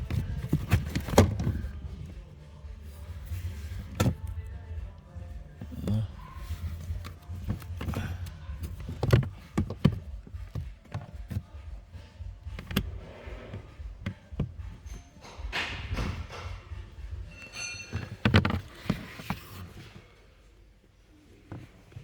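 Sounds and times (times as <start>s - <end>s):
car parts clicking and knocking: 0.0s - 20.1s.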